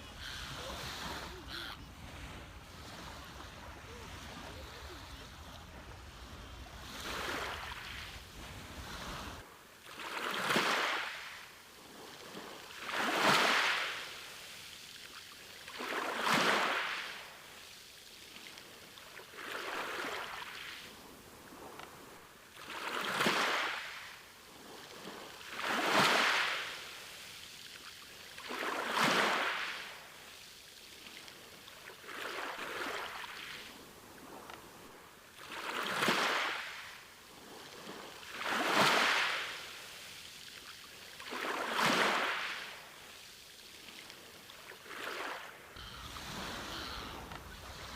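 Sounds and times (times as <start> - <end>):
waves washing onto beach: 0.0 - 47.9.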